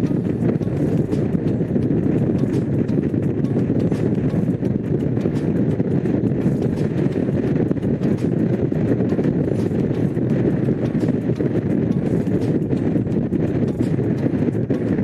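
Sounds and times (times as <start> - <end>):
motorcycle engine cruising: 0.0 - 15.0
wind rushing over microphone: 0.0 - 15.0.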